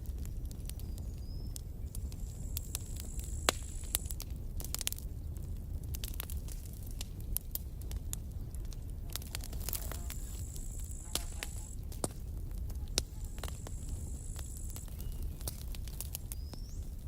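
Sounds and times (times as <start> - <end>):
wood campfire crackling: 0.0 - 17.0.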